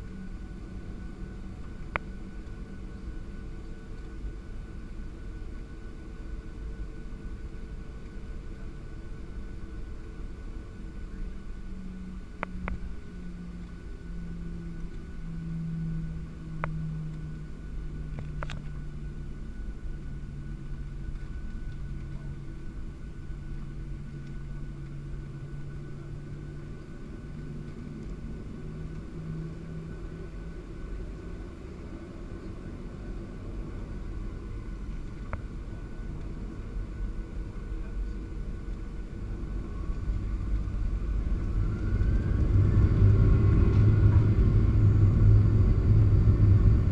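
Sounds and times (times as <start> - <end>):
engine whine rising in pitch: 0.0 - 46.9
jet engine cabin rumble: 0.0 - 46.9.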